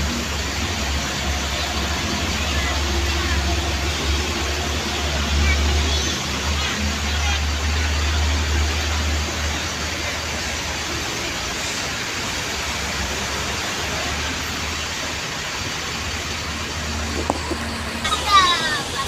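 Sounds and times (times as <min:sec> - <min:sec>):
diesel bus engine running: 0:00.0 - 0:19.0.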